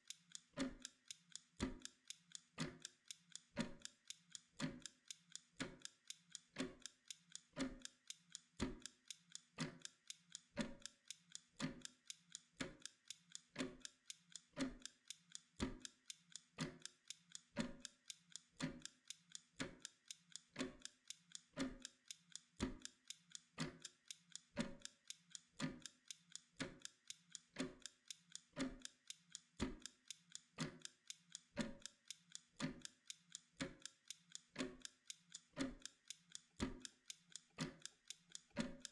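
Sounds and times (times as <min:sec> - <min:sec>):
mechanical kitchen timer ticking: 0:00.0 - 0:38.9.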